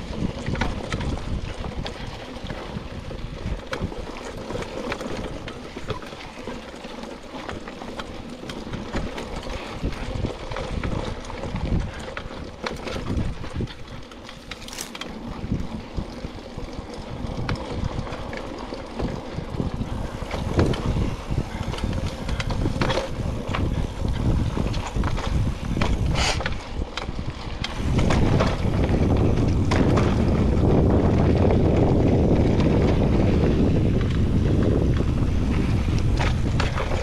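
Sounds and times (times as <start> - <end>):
bike clicks and rattles: 0.0 - 37.0
bike tyres rolling on dirt: 0.0 - 37.0
wind buffeting microphone: 0.0 - 37.0.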